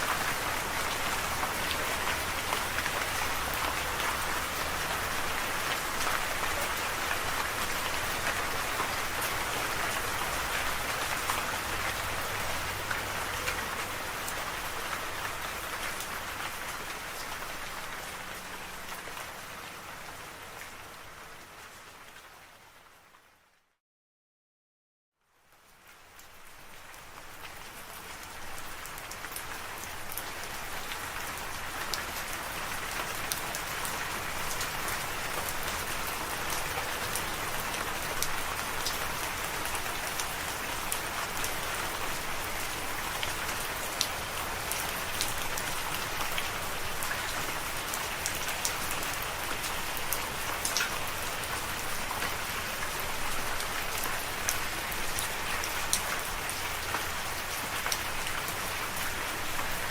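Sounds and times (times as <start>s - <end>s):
rain falling on a surface: 0.0s - 23.7s, 25.2s - 59.9s.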